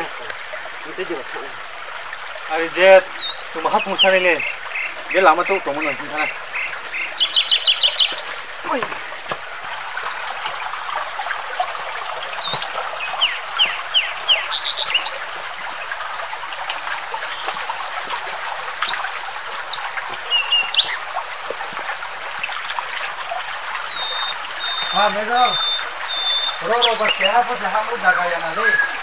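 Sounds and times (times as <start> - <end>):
birds chirping: 0.0 - 29.0
stream trickling over rocks: 0.0 - 29.0.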